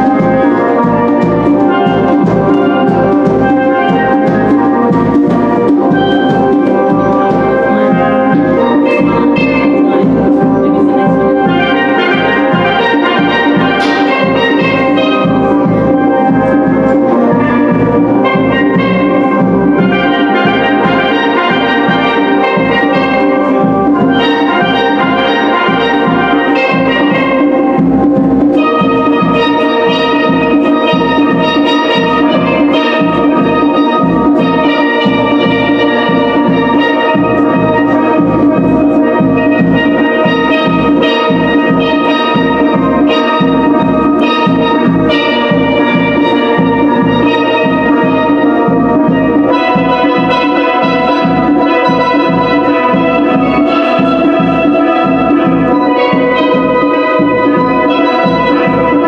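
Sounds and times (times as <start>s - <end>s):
drum kit beat: 0.0s - 59.0s
steel pans playing a tune: 0.0s - 59.0s.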